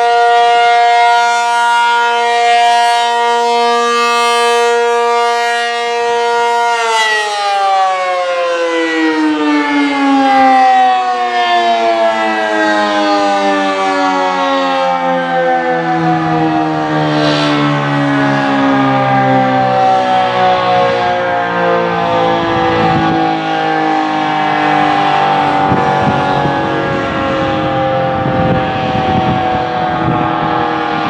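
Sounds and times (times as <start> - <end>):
tornado siren winding down: 0.0 - 31.0.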